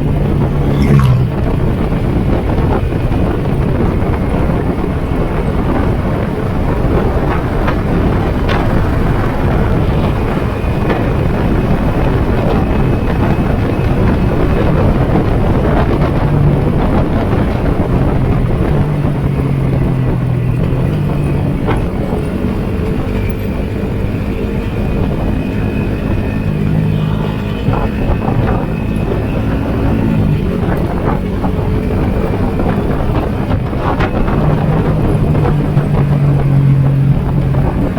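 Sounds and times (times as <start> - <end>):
motorcycle engine running: 0.0 - 37.9
wind noise on microphone: 0.0 - 37.9.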